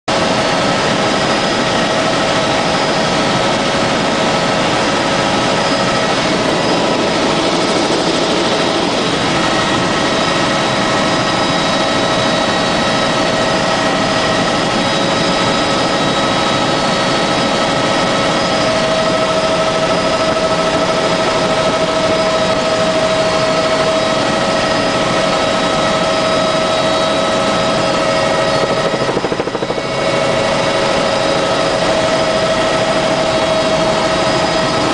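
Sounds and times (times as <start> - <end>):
helicopter engine and rotor noise: 0.1 - 34.9
high steady whining tones: 0.2 - 34.9.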